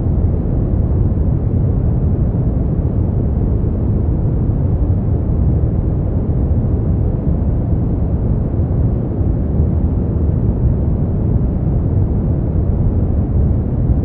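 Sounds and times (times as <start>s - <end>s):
deep rumbling brown noise: 0.0s - 14.0s.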